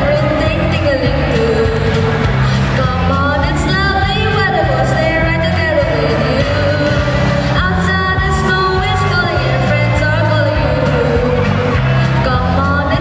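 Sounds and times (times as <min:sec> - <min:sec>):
person singing a melody: 0:00.0 - 0:13.0
steady bass line: 0:00.0 - 0:13.0.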